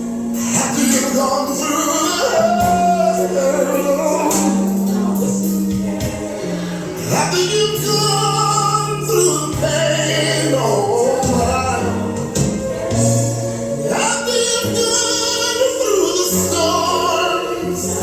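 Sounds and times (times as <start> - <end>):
bass line: 0.0 - 18.0
choir singing gospel: 0.0 - 18.0
instrumental accompaniment: 0.0 - 18.0.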